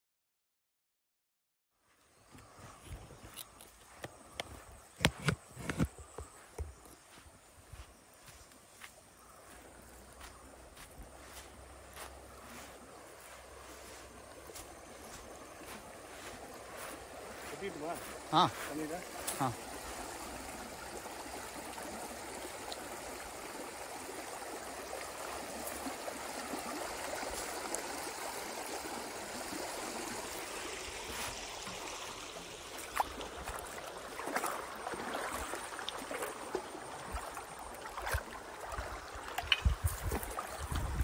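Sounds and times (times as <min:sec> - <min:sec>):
river water over stones: 0:01.9 - 0:41.0.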